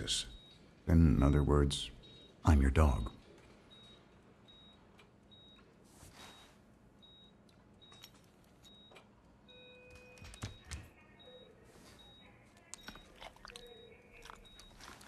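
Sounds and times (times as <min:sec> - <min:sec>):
patient monitor beeping: 0:00.0 - 0:15.0.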